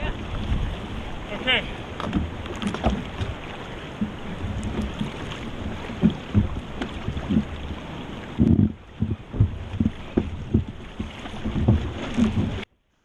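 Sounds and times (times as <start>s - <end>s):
water slapping against hull: 0.0s - 12.7s
water rushing along canoe: 0.0s - 13.0s.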